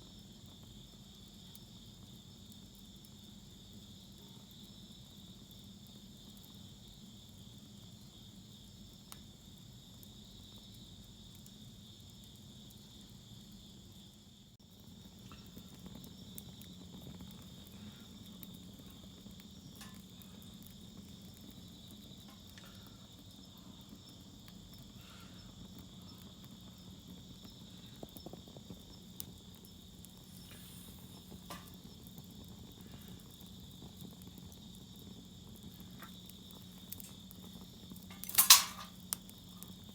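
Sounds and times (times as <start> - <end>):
firewood crackling and popping: 0.0 - 39.9
insects chirring: 0.0 - 39.9.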